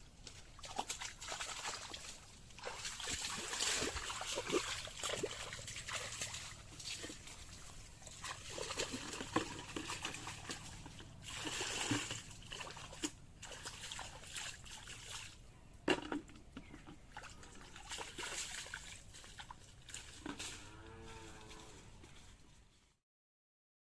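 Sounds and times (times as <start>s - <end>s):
shallow water splashing: 0.1s - 21.7s.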